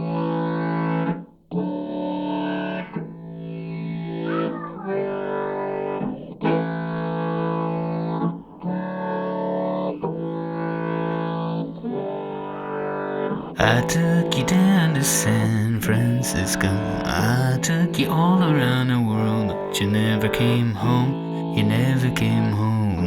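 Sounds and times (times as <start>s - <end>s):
distorted guitar chords: 0.0s - 23.0s.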